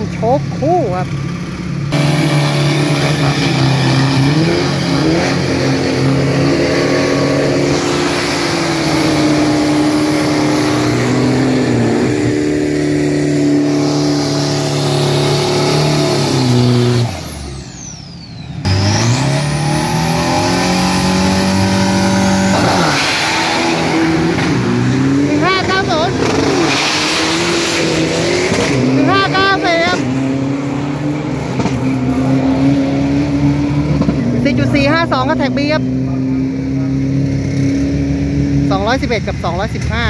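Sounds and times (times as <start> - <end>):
truck engine at high revs: 0.0 - 40.0.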